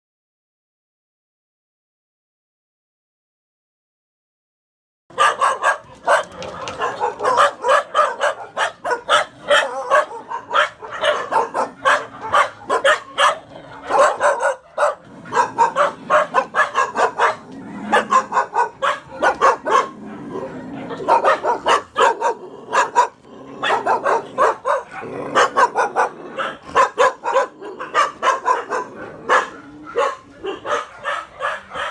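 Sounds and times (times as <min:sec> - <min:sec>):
dogs barking: 0:05.1 - 0:31.9.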